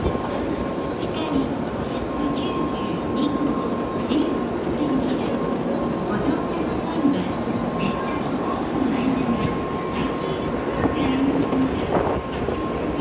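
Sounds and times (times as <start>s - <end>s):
train mechanical running noise: 0.0s - 13.0s.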